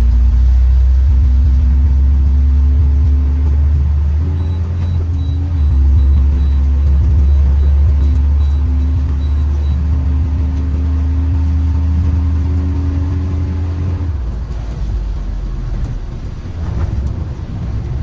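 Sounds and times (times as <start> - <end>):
car engine droning: 0.0 - 18.0
road noise: 0.0 - 18.0.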